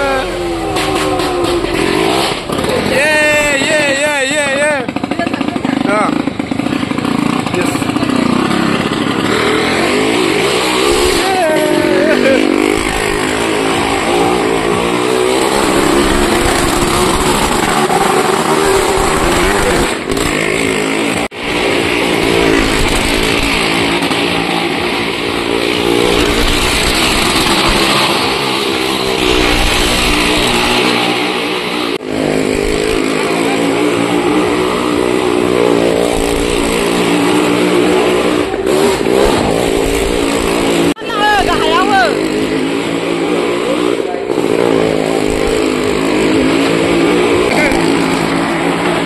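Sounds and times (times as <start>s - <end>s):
motorcycle engine running hard: 0.0s - 49.0s.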